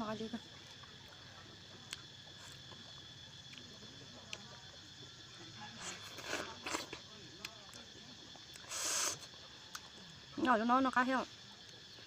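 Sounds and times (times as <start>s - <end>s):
high insect drone: 0.0s - 12.0s
mouth eating mango: 0.4s - 10.7s.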